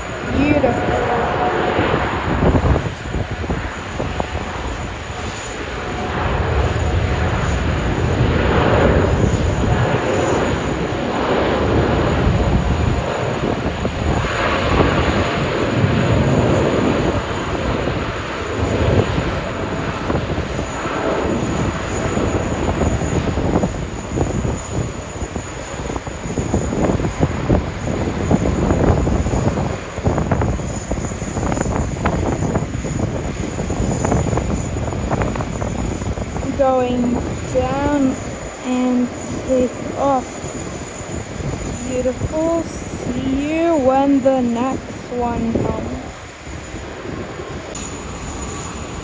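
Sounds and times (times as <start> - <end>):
jet engines at takeoff power: 0.0 - 49.0.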